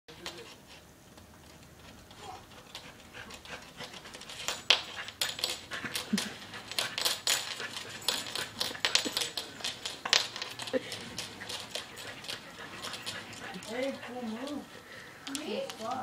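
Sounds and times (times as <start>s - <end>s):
dog panting: 0.1s - 15.9s
claws clicking on hardwood floor: 0.1s - 16.0s.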